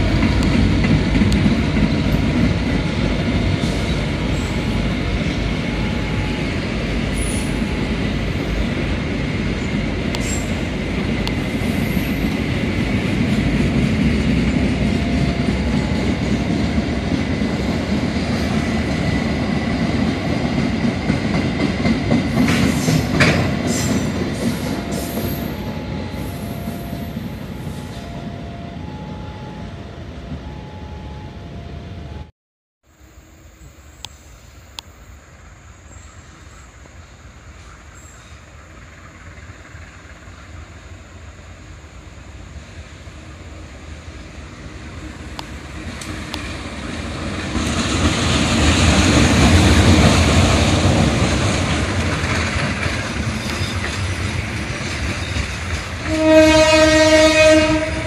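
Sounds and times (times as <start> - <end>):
train wheels rumbling over rail joints: 0.0 - 31.8, 42.4 - 58.0.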